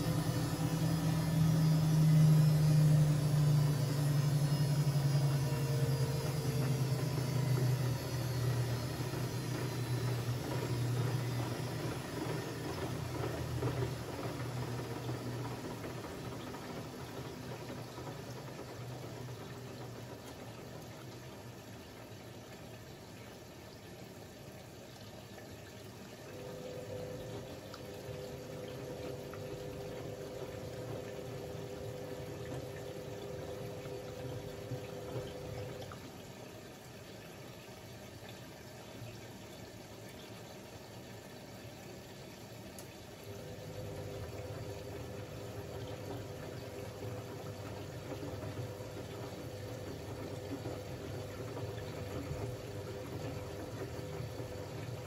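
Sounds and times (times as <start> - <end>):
washing machine motor hum: 0.0 - 55.0
water sloshing in washing machine: 0.0 - 55.0.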